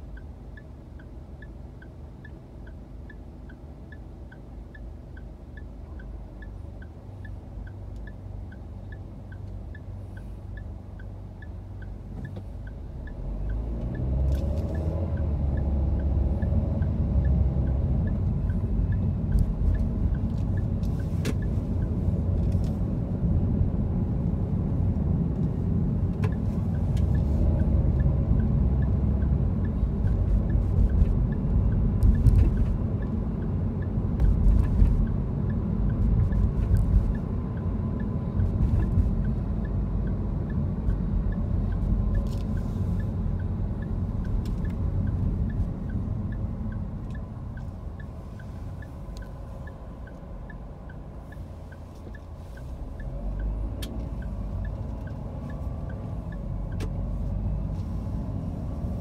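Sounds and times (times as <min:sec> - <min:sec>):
faint ticking: 0:00.0 - 0:58.9
car road and engine rumble: 0:00.0 - 0:59.0.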